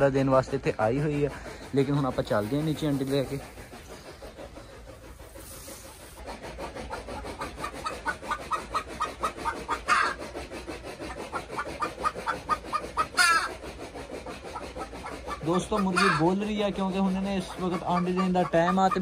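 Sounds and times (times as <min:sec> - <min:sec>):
hen clucking: 0:00.0 - 0:19.0
hen squawking: 0:01.0 - 0:19.0.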